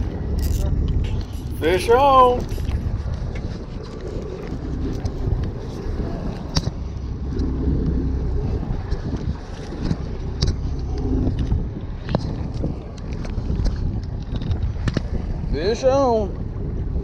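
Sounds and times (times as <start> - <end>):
boat engine rumbling: 0.0 - 17.0
wind on microphone: 0.0 - 17.0.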